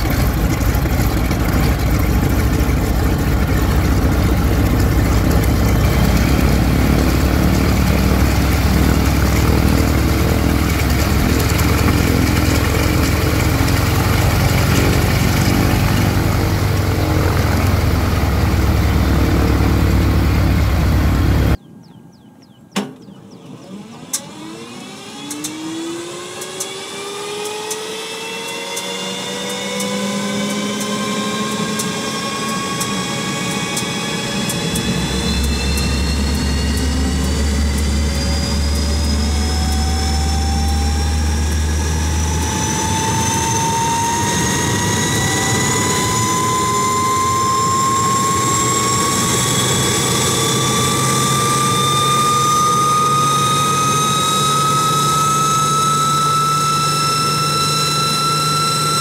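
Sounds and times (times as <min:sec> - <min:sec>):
low drone: 0:00.0 - 0:21.6, 0:23.2 - 0:59.0
turboprop turbine whine: 0:00.0 - 0:59.0.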